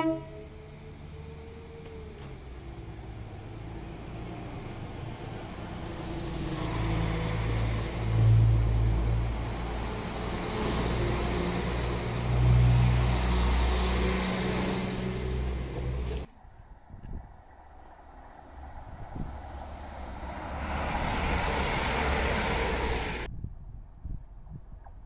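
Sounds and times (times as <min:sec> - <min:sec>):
diesel train passing: 0:00.0 - 0:23.3.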